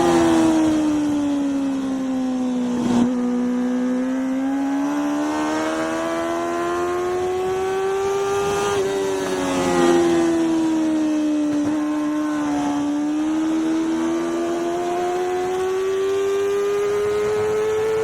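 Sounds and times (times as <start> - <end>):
racing motorcycle engine accelerating: 0.0 - 18.0.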